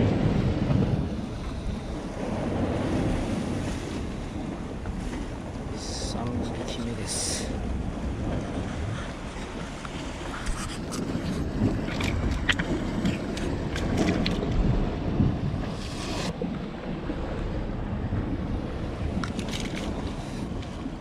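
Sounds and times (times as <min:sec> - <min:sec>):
sea: 0:00.0 - 0:21.0
wind buffeting microphone: 0:00.0 - 0:21.0.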